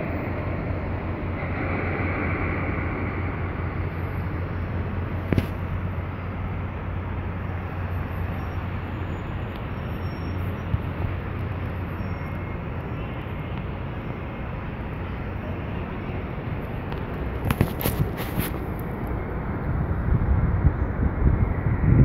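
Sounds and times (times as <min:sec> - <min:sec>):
low city hum and rumble: 0:00.0 - 0:22.0.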